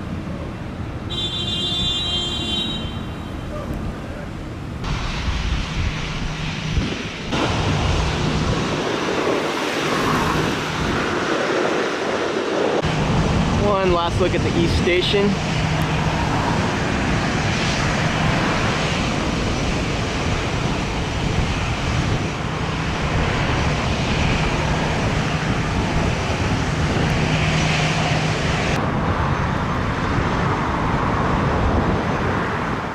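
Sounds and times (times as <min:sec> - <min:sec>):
aircraft engines: 0:00.0 - 0:32.9
rumble of road traffic: 0:00.0 - 0:32.9.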